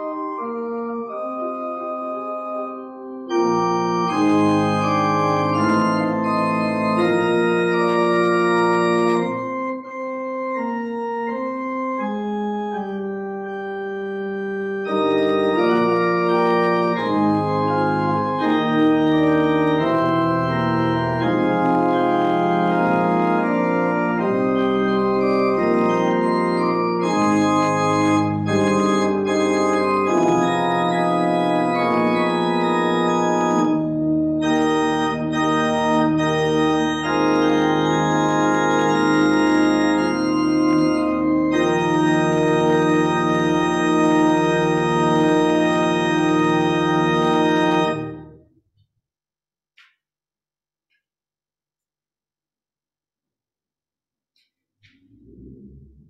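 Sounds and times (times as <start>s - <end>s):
pipe organ chords: 0.0s - 48.5s.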